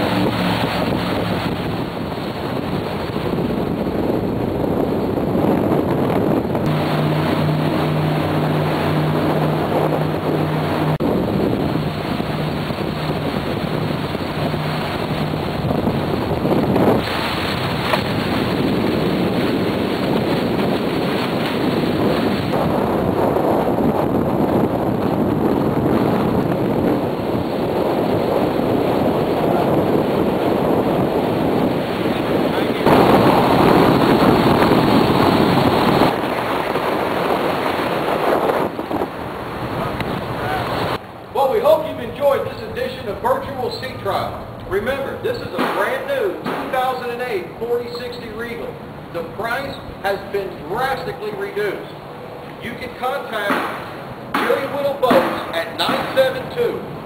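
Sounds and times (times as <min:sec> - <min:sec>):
wind buffeting microphone: 0:00.0 - 0:50.6
boat engine drone: 0:00.0 - 0:57.0
water rushing: 0:00.0 - 0:57.0.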